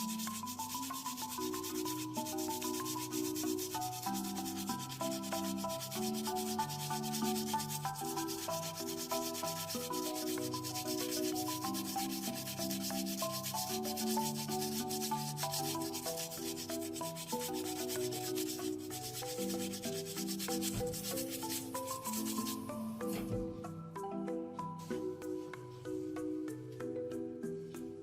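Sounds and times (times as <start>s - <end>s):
rapid scrubbing: 0.0s - 22.7s
background music: 0.0s - 28.0s.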